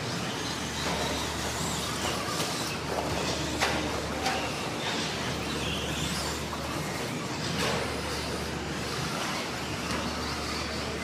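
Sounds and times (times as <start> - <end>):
rc truck motors whining: 0.0 - 11.0.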